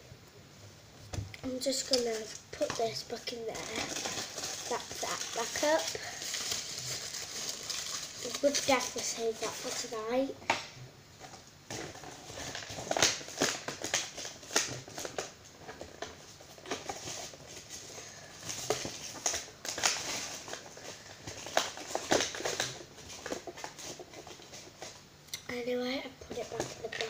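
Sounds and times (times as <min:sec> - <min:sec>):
foil and plastic packaging crinkling: 0:01.4 - 0:25.0, 0:26.2 - 0:27.0.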